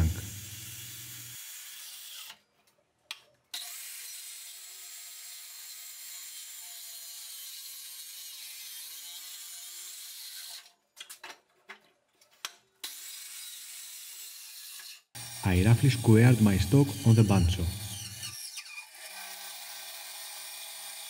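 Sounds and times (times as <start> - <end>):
circular saw cutting wood: 0.0 - 2.5, 3.6 - 10.8, 12.8 - 21.0.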